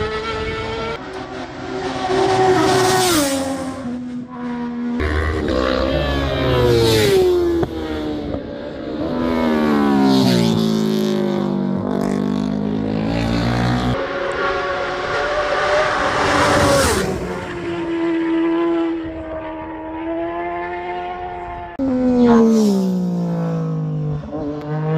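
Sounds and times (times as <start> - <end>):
racing motorcycles passing at speed: 0.0 - 24.9.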